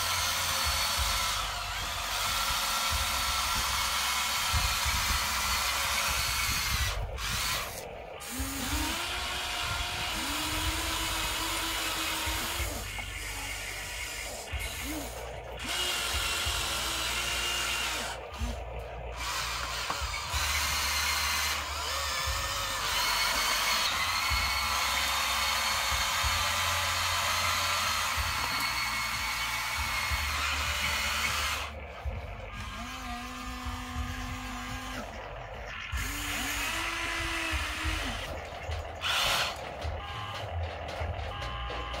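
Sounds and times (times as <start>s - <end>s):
toy excavator motors whining: 0.0s - 42.0s.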